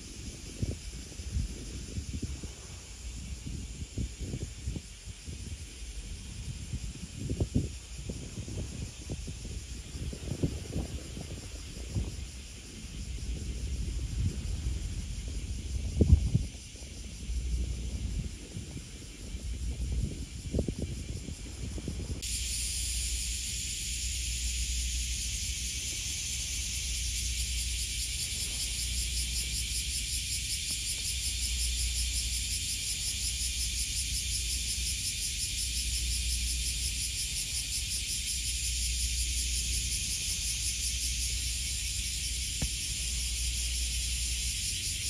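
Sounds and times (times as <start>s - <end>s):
cicadas droning: 0.0s - 45.0s
low uneven rumble: 0.0s - 45.0s.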